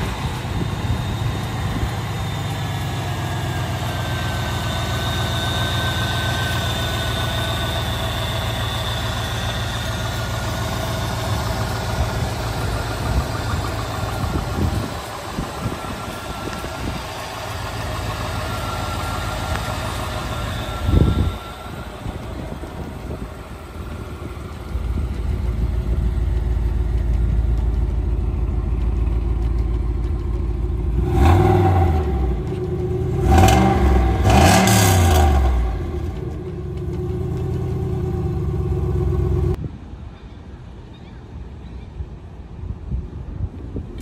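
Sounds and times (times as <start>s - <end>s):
car engine idling and revving: 0.0s - 39.7s.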